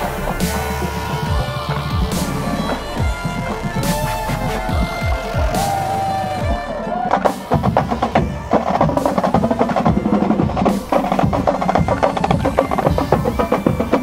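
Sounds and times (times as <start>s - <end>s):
snare drum strokes and rolls: 0.0s - 14.0s.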